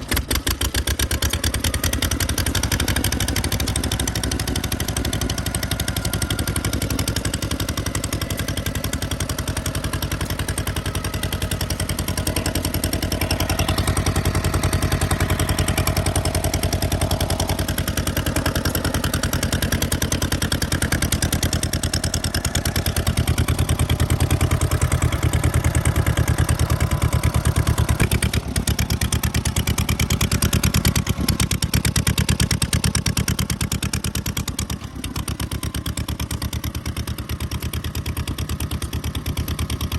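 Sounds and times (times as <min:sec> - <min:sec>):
kerosene engine running: 0:00.0 - 0:39.9.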